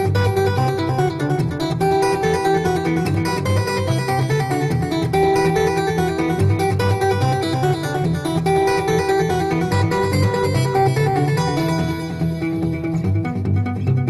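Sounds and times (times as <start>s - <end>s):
instrumental guitar music: 0.0s - 14.0s.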